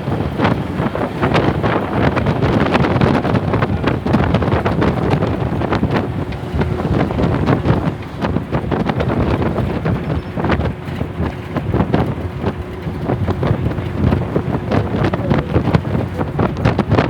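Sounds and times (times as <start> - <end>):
bus body knocks and rattles: 0.0 - 17.0
bus engine and road noise: 0.0 - 17.0
wind buffeting microphone: 0.0 - 17.0.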